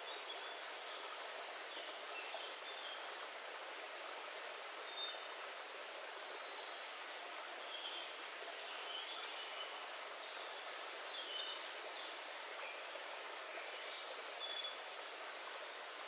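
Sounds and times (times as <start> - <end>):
stream running and splashing: 0.0 - 16.0.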